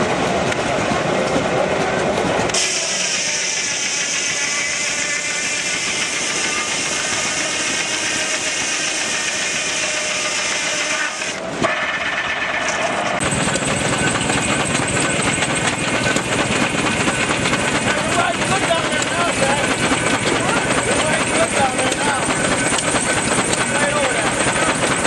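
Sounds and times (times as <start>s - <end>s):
sawmill rattling: 0.0s - 25.0s
steam engine running: 0.0s - 25.0s
circular saw blade cutting log: 2.5s - 25.0s.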